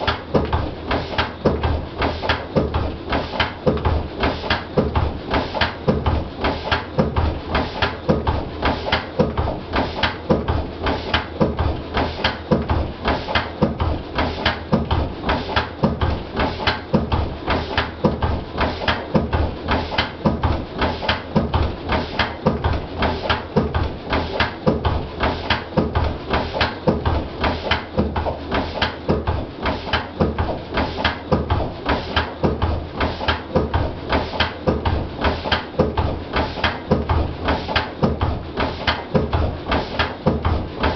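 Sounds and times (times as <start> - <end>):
diesel engine knocking steadily: 0.0 - 40.9.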